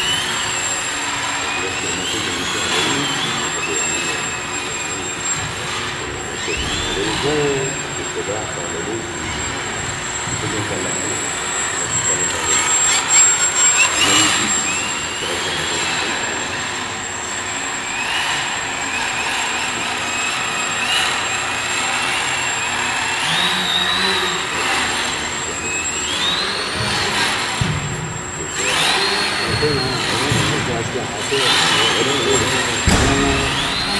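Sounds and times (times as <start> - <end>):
mechanical running noise: 0.0 - 33.9
stepper motors whining: 0.0 - 33.9.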